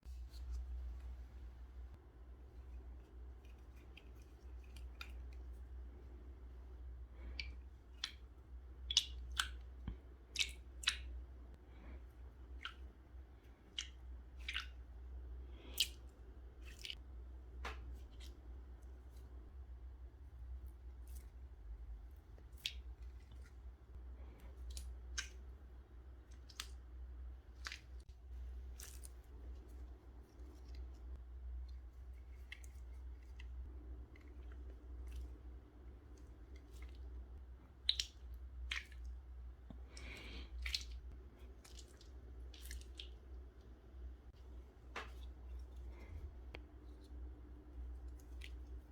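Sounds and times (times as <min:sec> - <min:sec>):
steady low hum: 0:00.0 - 0:48.9
slime squishing: 0:02.3 - 0:48.9.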